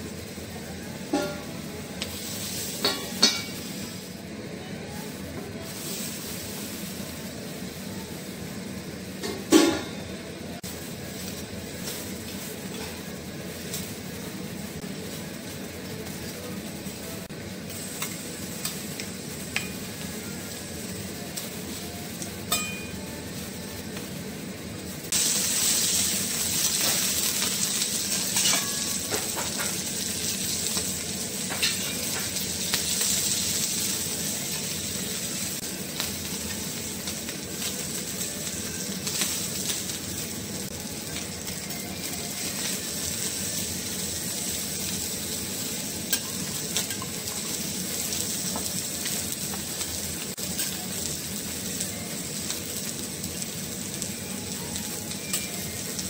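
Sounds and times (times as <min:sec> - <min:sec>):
prawn sizzling on a griddle: 0:00.0 - 0:56.0.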